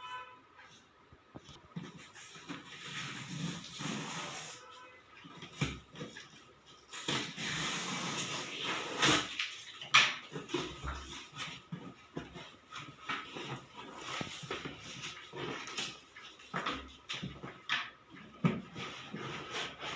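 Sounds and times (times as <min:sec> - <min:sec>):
cardboard box rustling and scraping: 0:01.5 - 0:09.7, 0:10.3 - 0:19.9.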